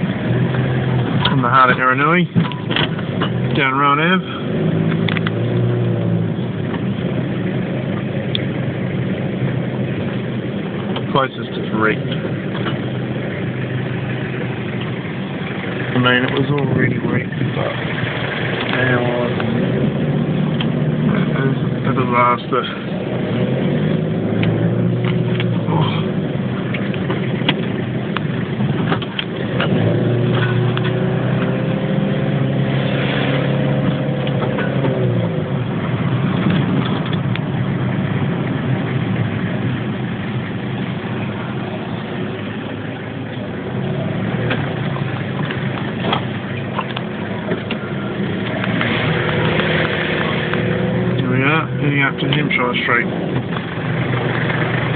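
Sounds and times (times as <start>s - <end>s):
car engine: 0.0s - 54.9s
road noise: 0.0s - 54.9s.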